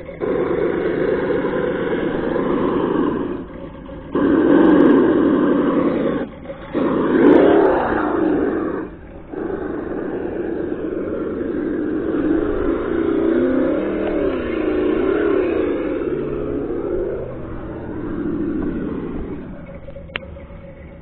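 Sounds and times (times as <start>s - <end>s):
simulated engine sound from speaker: 0.0s - 21.0s.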